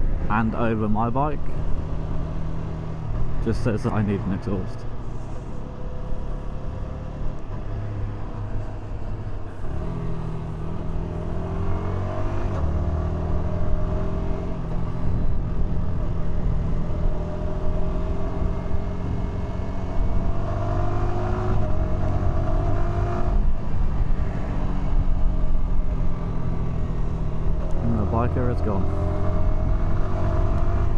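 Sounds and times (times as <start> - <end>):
motorcycle engine accelerating: 1.4 - 30.9.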